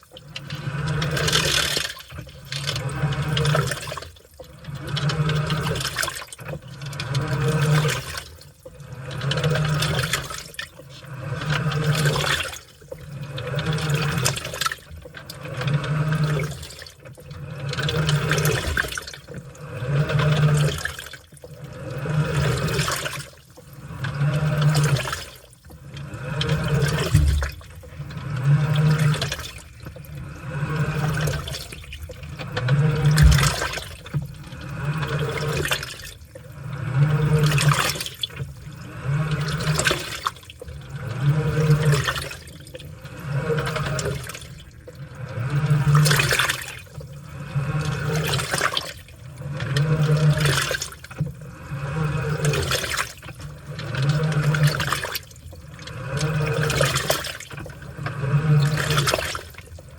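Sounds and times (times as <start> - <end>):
washing machine motor humming: 0.0 - 59.9
water sloshing and splashing: 0.0 - 59.9.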